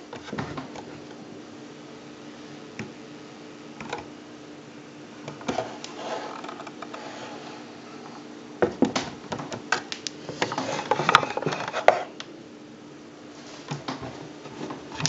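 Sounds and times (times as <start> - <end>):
extractor fan hum: 0.0 - 15.0.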